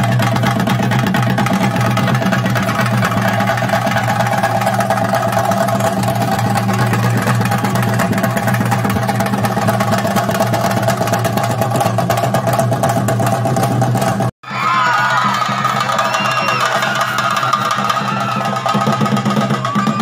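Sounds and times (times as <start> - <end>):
fast drum roll: 0.0 - 20.0.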